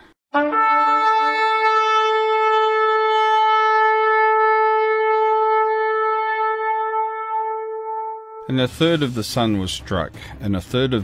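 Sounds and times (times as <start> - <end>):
long horn blast: 0.3 - 9.2.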